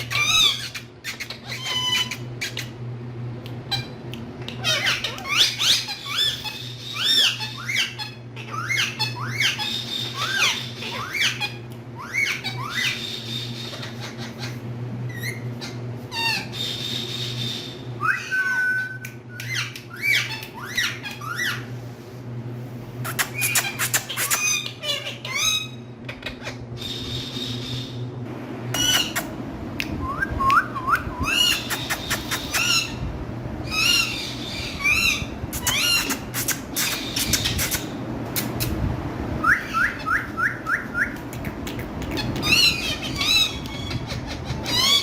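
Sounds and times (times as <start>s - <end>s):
parrots squawking and chirping: 0.0s - 2.8s, 3.7s - 21.7s, 23.0s - 28.0s, 28.8s - 29.3s, 31.2s - 33.0s, 33.6s - 38.7s, 39.4s - 41.2s, 42.0s - 45.0s
low hum: 0.0s - 45.0s.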